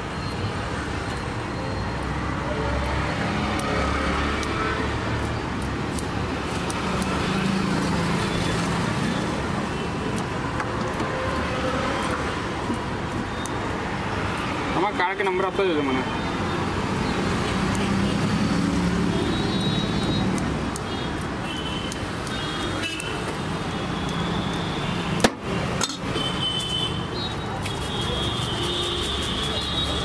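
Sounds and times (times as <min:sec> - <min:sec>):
street traffic noise: 0:00.0 - 0:30.0.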